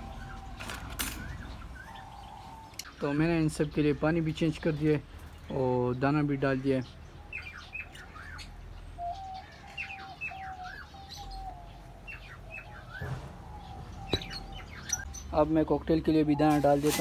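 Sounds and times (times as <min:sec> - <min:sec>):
cage birds chirping: 0:00.0 - 0:17.0.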